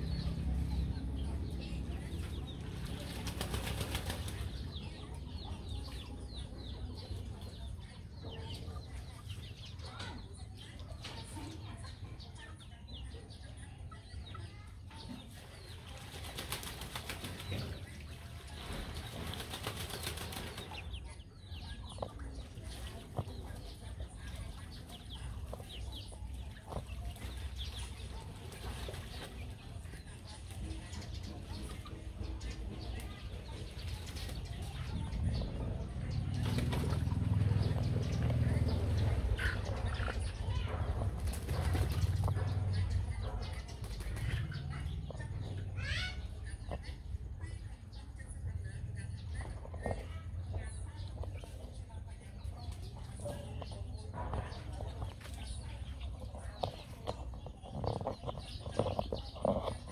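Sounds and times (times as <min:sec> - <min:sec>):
chicks peeping and clucking: 0:00.0 - 0:59.9.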